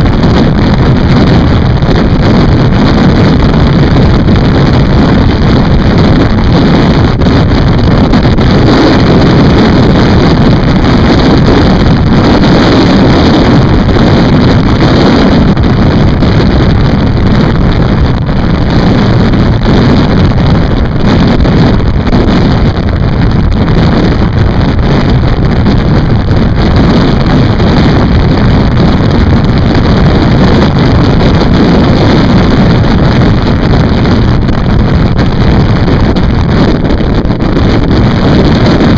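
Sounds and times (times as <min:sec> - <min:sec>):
motorcycle running: 0:00.0 - 0:38.9
wind rush on microphone: 0:00.0 - 0:38.9.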